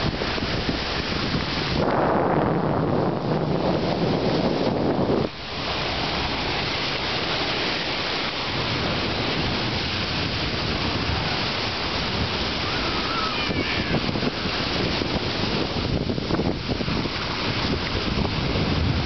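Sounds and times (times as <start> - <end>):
small waves breaking on beach: 0.0 - 19.0.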